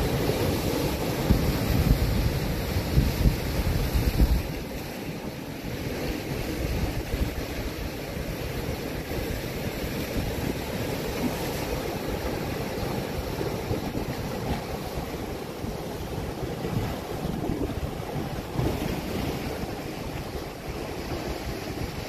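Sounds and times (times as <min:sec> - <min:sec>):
surf breaking on rocky shore: 0:00.0 - 0:22.0
wind rumbling on microphone: 0:00.0 - 0:22.0.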